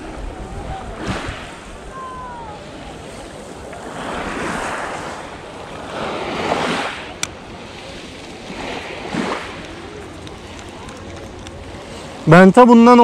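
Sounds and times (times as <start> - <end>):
waves washing on pebble beach: 0.0 - 13.0.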